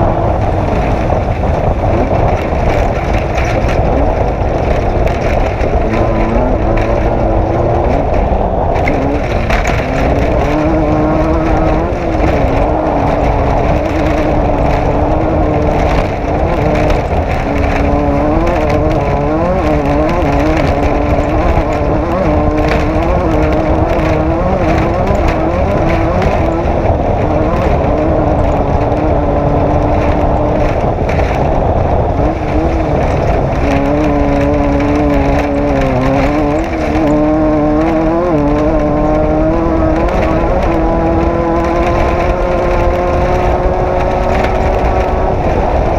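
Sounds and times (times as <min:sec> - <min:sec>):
chassis knocks and rattles: 0:00.0 - 0:45.9
race vehicle engine revving: 0:00.0 - 0:45.9.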